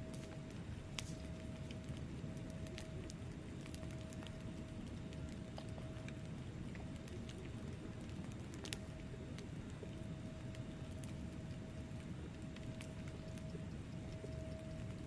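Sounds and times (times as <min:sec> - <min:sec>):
faint steady hum: 0:00.0 - 0:15.0
fire crackling and popping: 0:00.0 - 0:15.0
low rumble of flames: 0:00.0 - 0:15.0.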